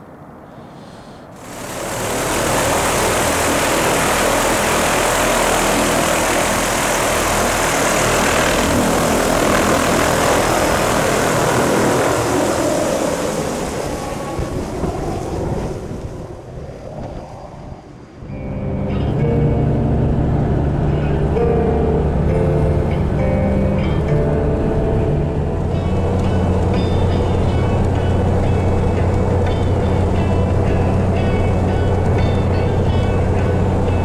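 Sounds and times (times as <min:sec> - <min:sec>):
helicopter rotor and engine: 0:01.4 - 0:16.2, 0:18.3 - 0:34.0.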